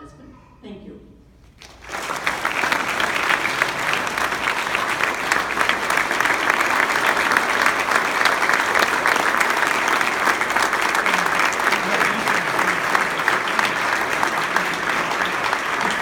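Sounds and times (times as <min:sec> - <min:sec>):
audience applauding: 0:01.5 - 0:16.0.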